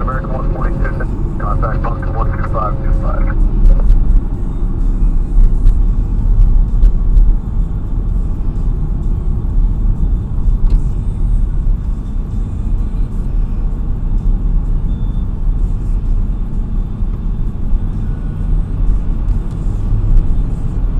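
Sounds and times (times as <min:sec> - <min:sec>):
engine and tyre rumble: 0:00.0 - 0:20.9.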